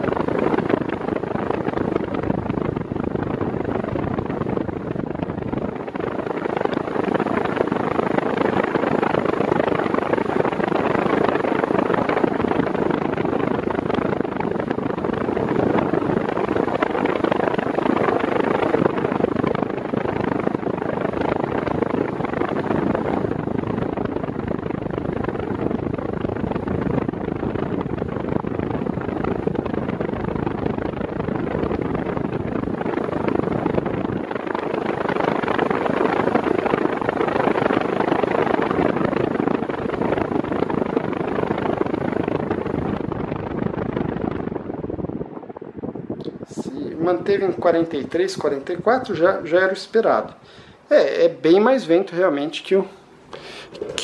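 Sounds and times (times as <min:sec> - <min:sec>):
fan airflow rushing: 0:00.0 - 0:54.0.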